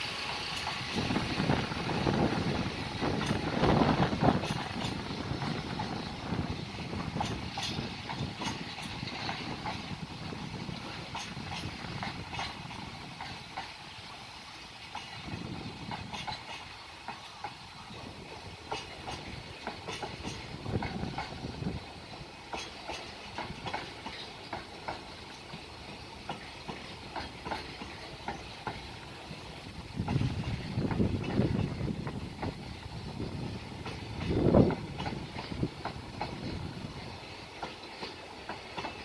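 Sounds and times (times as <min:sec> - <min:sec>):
train wagons rolling hiss: 0:00.0 - 0:39.0
wheels clacking over rail joints: 0:00.0 - 0:39.0.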